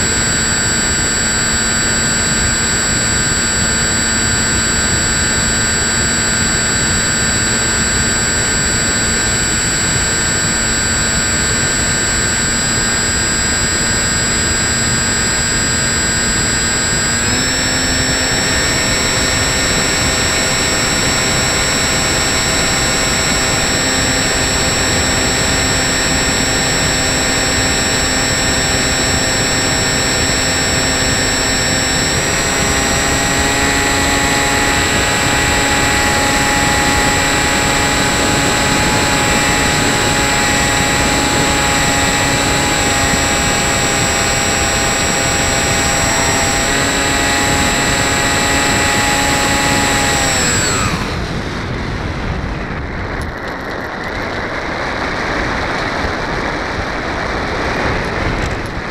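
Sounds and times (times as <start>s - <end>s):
electric motor whine: 0.0s - 58.9s.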